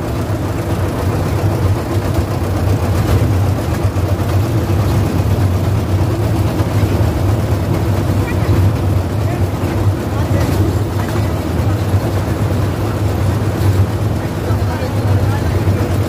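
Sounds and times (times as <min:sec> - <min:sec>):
ferry boat engine running: 0:00.0 - 0:16.0.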